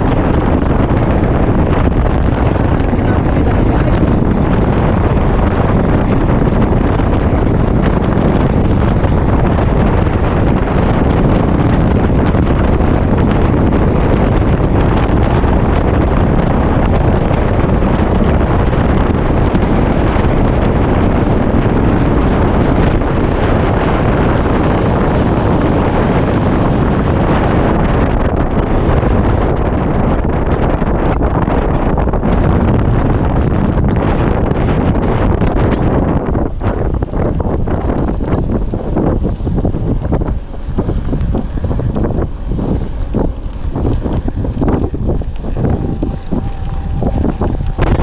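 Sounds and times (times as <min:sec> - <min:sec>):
bike rumbling on trail: 0:00.0 - 0:48.0
wind buffeting microphone: 0:00.0 - 0:48.0.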